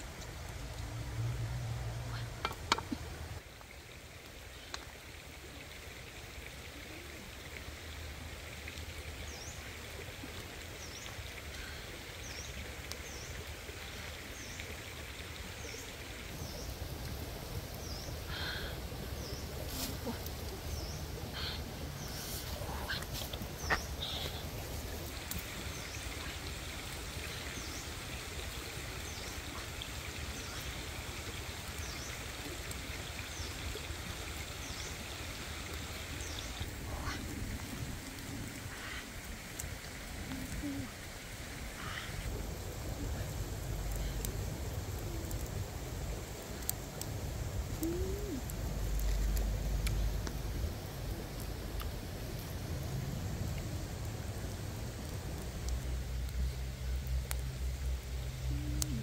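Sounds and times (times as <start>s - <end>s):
wood fire hissing and crackling: 0.0s - 59.0s.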